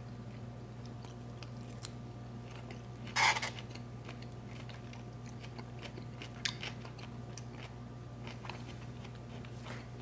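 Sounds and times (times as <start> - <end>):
person chewing food: 0.0 - 10.0
steady low hum: 0.0 - 10.0.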